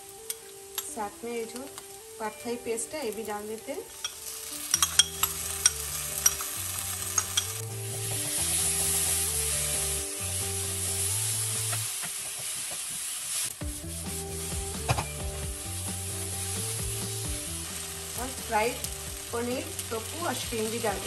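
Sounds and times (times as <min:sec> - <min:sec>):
noodles sizzling in a wok: 0:00.0 - 0:21.0.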